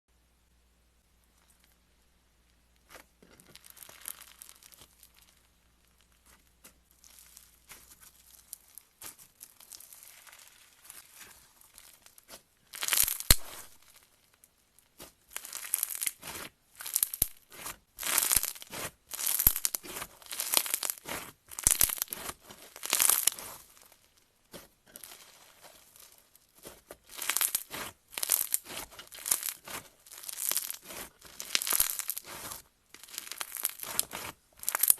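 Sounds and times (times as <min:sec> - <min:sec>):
slime squelching by hand: 0:02.8 - 0:14.1, 0:14.8 - 0:34.9.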